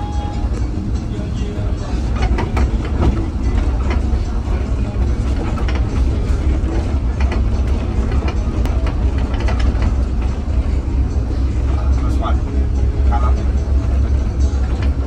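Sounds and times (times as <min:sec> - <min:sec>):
bus engine and road rumble: 0:00.0 - 0:15.0
rattles and knocks of bus body: 0:00.0 - 0:15.0.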